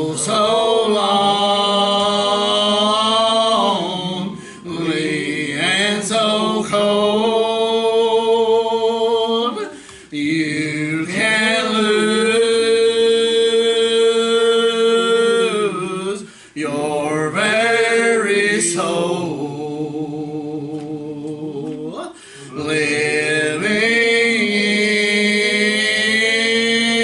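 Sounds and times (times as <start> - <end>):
man singing gospel song: 0.0 - 27.0.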